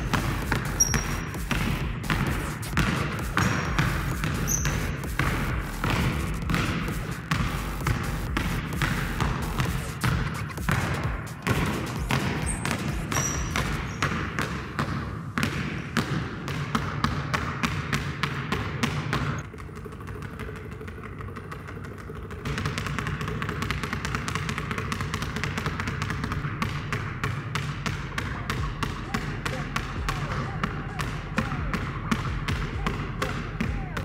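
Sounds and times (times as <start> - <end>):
basketballs bouncing on wooden floor: 0.0 - 34.0.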